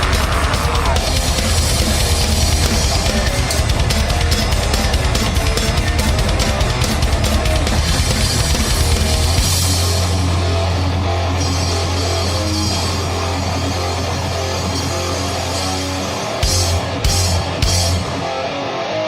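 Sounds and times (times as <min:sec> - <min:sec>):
thrash metal band playing: 0:00.0 - 0:19.0.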